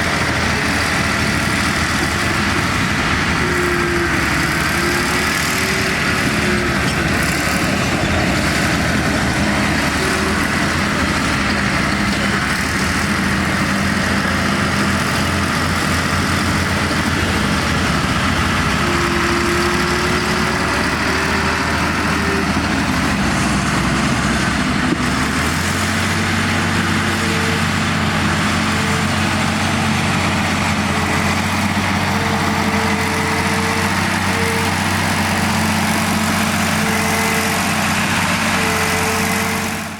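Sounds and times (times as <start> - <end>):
heavy diesel truck engine running: 0.0 - 39.9.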